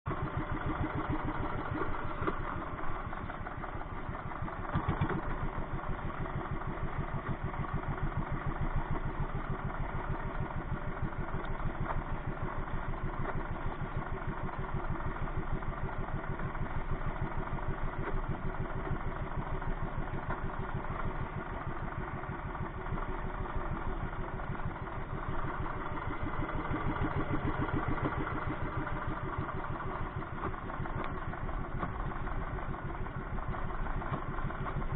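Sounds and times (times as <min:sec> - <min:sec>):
small engine running: 0:00.1 - 0:34.9.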